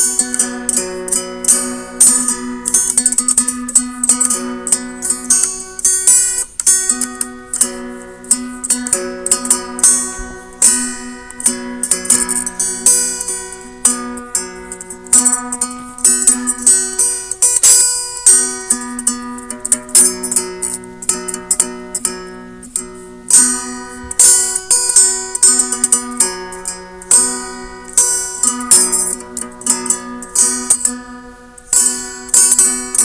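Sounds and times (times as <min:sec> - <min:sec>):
guitar plucked and strummed: 0:00.0 - 0:33.0.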